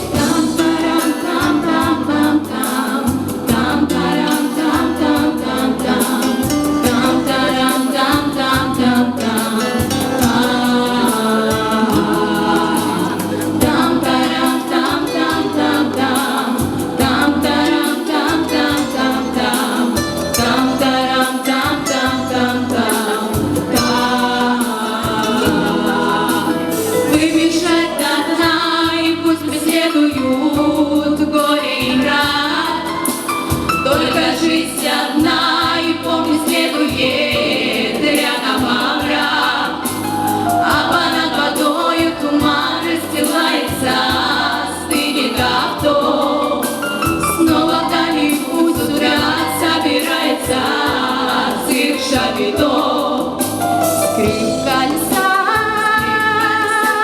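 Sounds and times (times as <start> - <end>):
female vocal quartet singing: 0.0 - 57.0.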